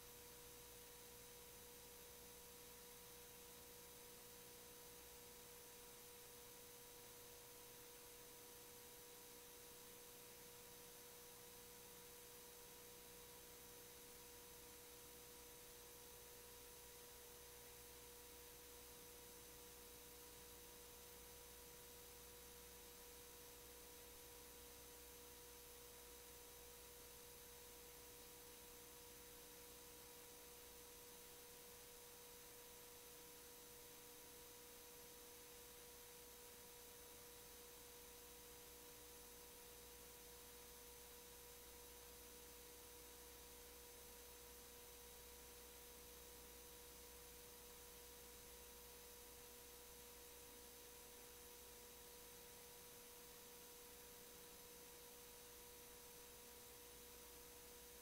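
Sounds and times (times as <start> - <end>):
low hiss: 0.0 - 58.0.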